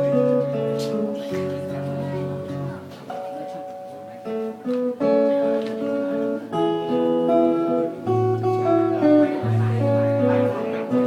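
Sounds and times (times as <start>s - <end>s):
acoustic guitar picked melody: 0.0s - 11.0s.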